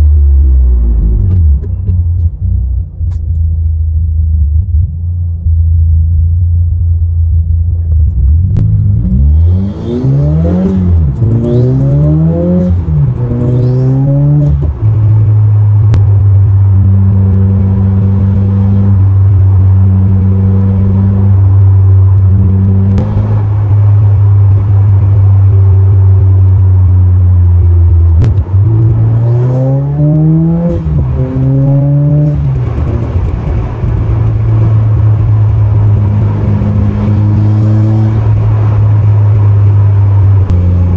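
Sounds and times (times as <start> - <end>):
car engine revving through gears: 8.1 - 40.9.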